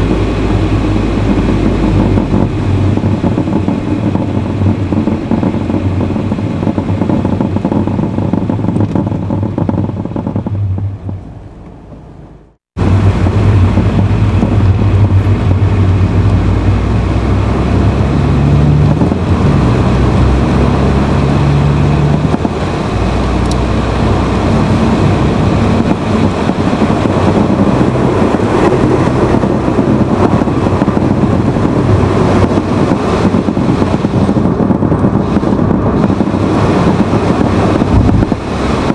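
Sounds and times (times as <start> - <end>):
car engine and road noise: 0.0 - 38.9
low hum: 0.0 - 38.9.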